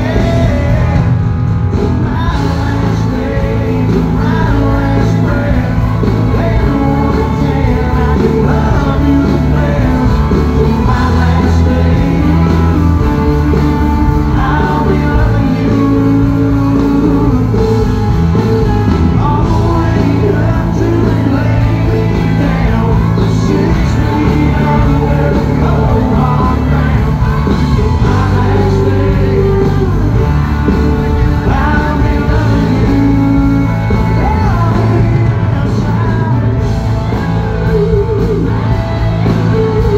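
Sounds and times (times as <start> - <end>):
country-rock band playing: 0.0 - 39.9
electric guitars: 0.0 - 39.9
man singing lead vocal: 0.0 - 39.9
steady bass line: 0.0 - 39.9.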